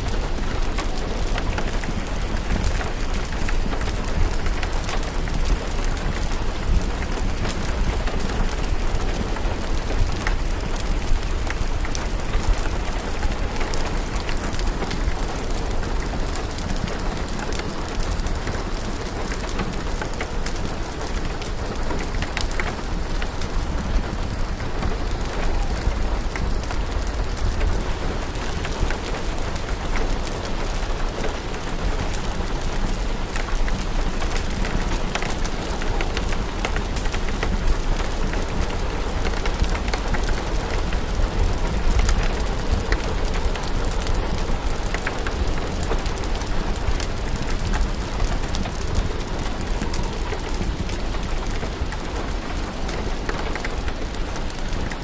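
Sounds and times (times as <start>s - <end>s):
fire crackling: 0.0s - 55.0s
steady rain: 0.0s - 55.0s.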